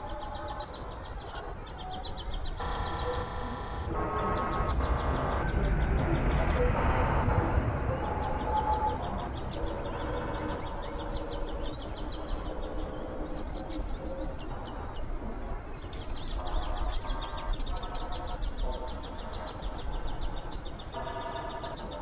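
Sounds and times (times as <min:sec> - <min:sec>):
birds calling: 0:00.0 - 0:22.0
low steady rumble: 0:02.4 - 0:21.7.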